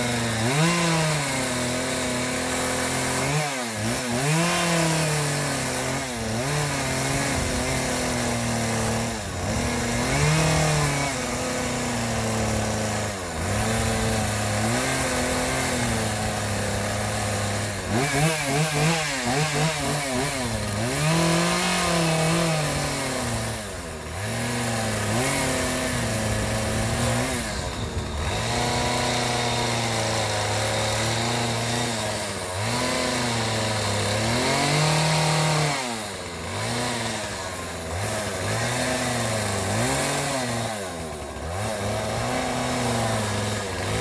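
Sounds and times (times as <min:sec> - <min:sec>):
power tool motor running: 0:00.0 - 0:44.0.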